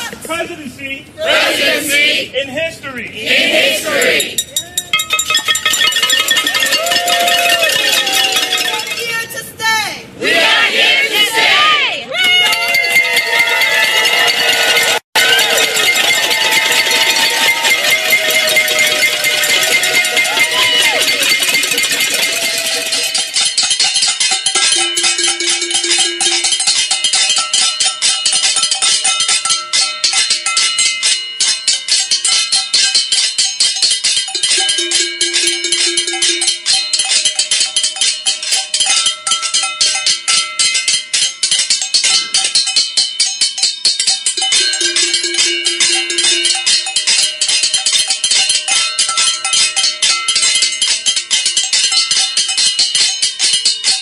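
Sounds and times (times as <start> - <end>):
people banging on pots and pans: 3.8 - 9.3, 12.2 - 54.0
pots ringing in clear tones: 4.2 - 9.2, 12.4 - 54.0.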